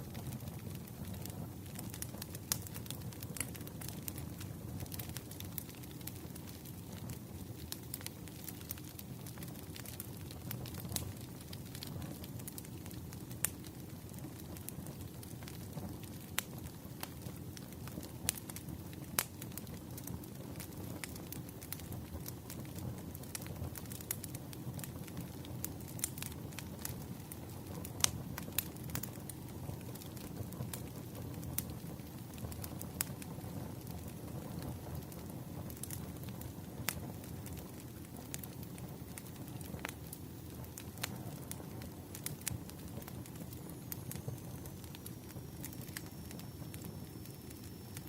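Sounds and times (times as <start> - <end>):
fire pops and snaps: 0.0 - 48.0
wood fire crackling: 0.0 - 48.0.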